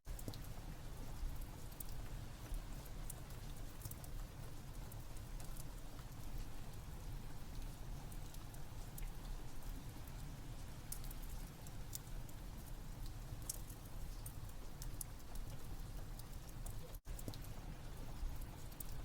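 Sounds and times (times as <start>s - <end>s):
steady rain: 0.1s - 19.0s
wood fire crackling and popping: 0.1s - 19.0s.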